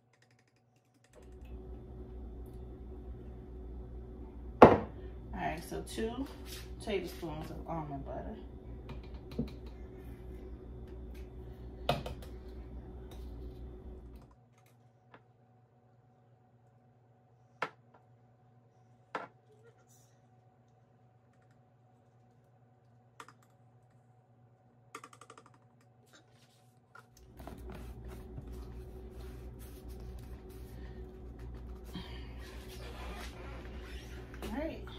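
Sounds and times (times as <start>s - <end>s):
low steady hum: 1.0s - 34.9s.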